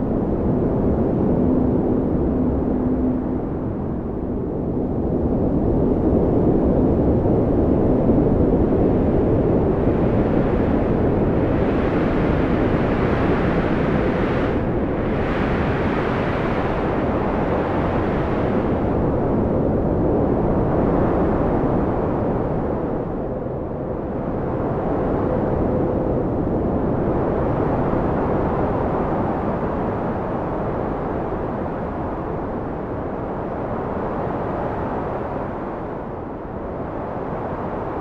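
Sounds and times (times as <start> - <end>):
strong wind roaring: 0.0 - 38.0.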